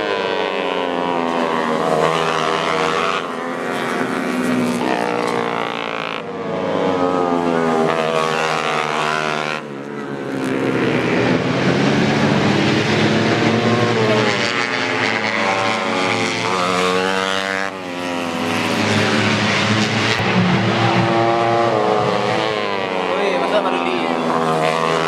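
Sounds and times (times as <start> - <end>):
race motorcycles revving: 0.0 - 25.0.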